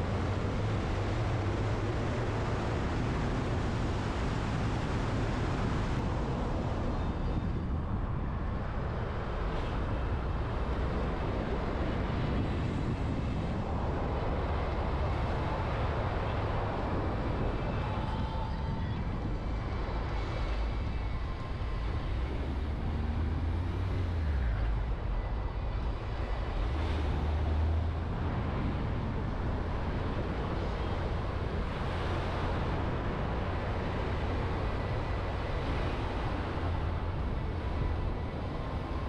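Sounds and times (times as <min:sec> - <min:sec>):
moving vehicle rumble and hiss: 0:00.0 - 0:39.0.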